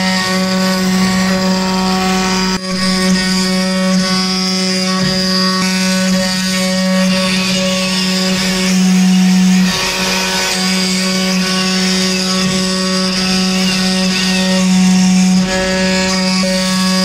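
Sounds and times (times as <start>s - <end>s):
wood router carving wood: 0.0s - 17.0s.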